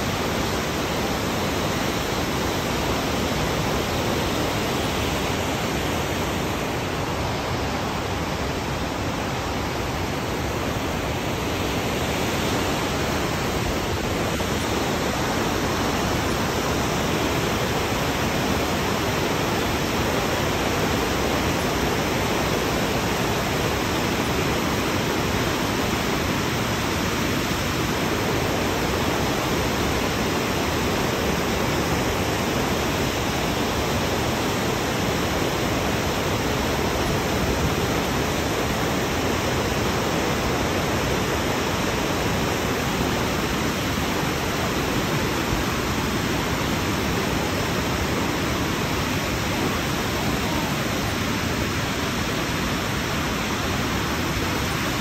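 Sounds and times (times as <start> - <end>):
waterfall rushing over rock: 0.0 - 55.0.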